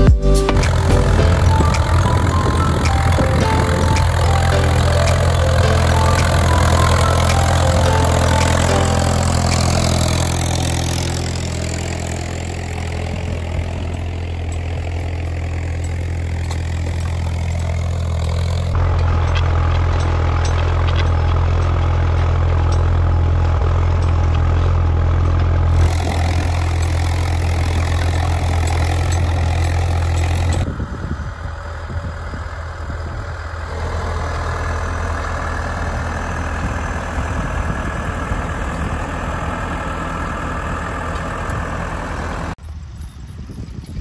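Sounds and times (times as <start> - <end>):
distant tractor engine: 0.0 - 43.0
tractor engine droning under load: 0.0 - 44.0.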